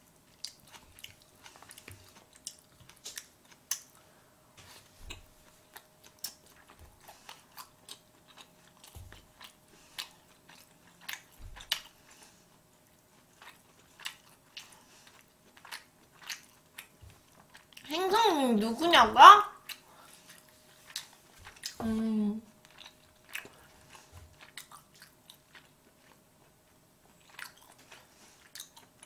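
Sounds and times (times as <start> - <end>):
person chewing wet mouth sounds: 0.3 - 4.0, 4.8 - 17.9, 19.6 - 21.8, 22.6 - 29.0.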